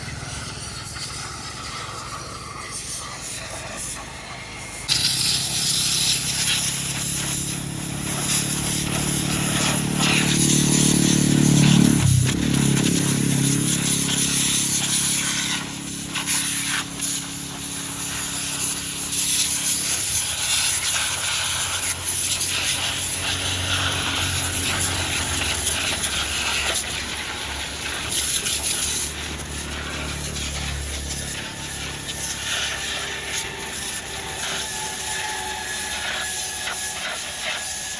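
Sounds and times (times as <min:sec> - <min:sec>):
engine running: 0:00.0 - 0:37.9
water jet spraying hiss: 0:00.0 - 0:37.9.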